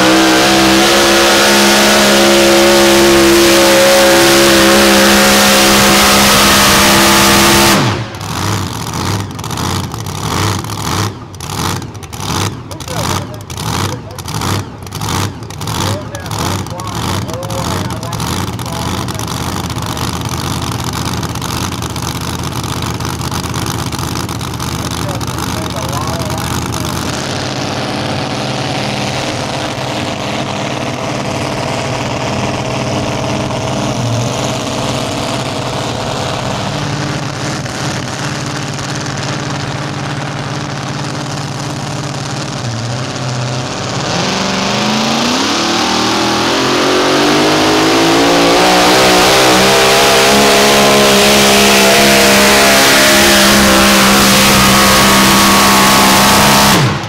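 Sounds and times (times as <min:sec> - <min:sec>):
pulling truck engine revving: 0:00.0 - 0:57.0.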